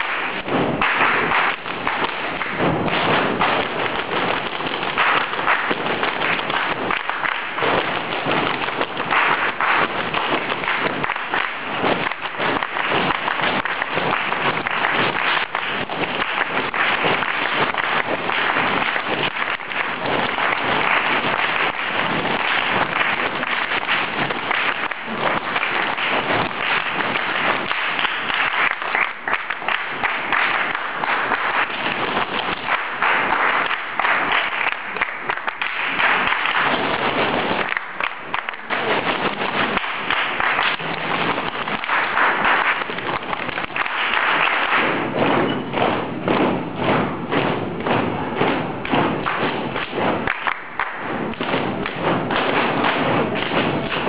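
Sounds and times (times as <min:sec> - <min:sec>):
body percussion thumps and taps: 0:00.0 - 0:54.0.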